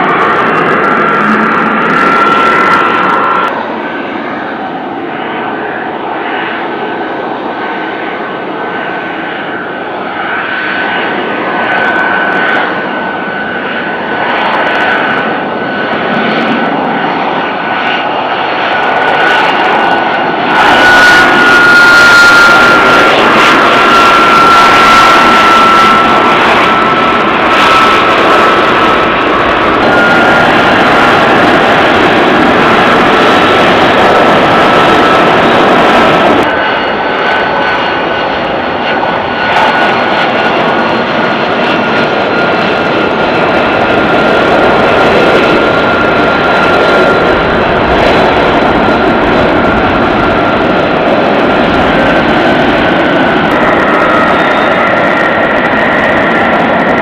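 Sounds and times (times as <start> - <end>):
jet engine whine and rush: 0.0 - 57.0.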